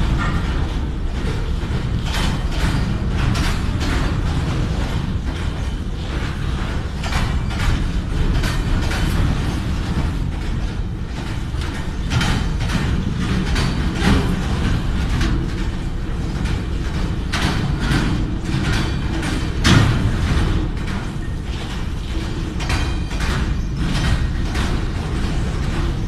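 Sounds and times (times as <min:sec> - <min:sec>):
wheels and couplings clanking: 0:00.0 - 0:26.0.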